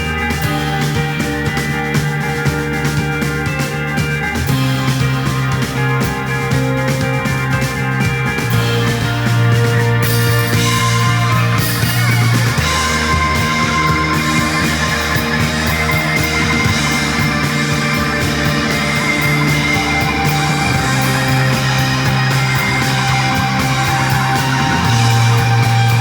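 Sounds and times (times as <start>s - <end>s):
bass guitar: 0.0s - 26.0s
distorted electric guitars: 0.0s - 26.0s
drums with busy cymbals: 0.0s - 26.0s
keyboard: 0.0s - 26.0s.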